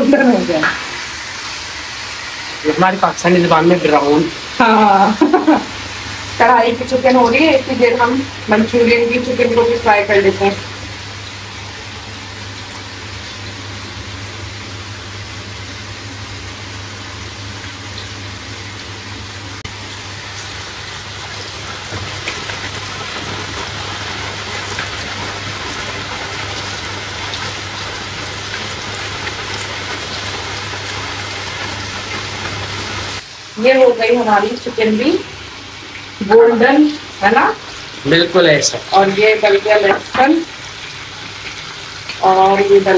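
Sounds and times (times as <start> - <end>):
chicken deep-frying in hot oil: 0.0 - 42.9.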